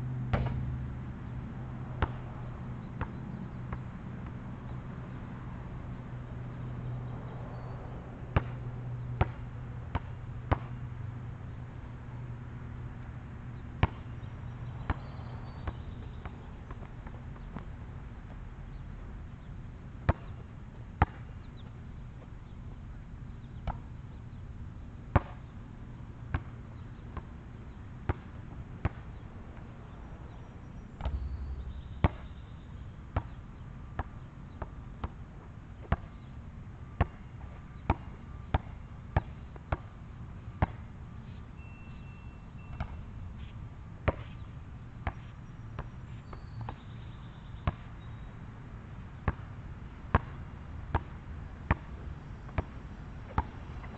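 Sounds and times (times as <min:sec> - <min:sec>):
basketball bouncing on asphalt: 0:00.1 - 0:01.0, 0:01.6 - 0:05.2, 0:06.6 - 0:22.4, 0:23.3 - 0:24.1, 0:25.0 - 0:25.5, 0:26.2 - 0:48.3, 0:49.2 - 0:53.9.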